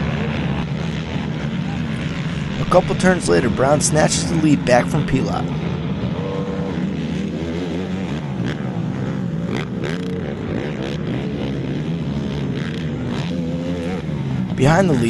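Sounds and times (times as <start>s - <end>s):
atv engines revving: 0.0s - 15.0s.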